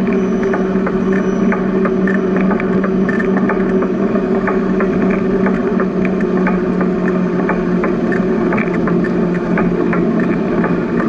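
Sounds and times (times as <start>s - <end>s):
bicycle tyres humming: 0.0s - 11.0s.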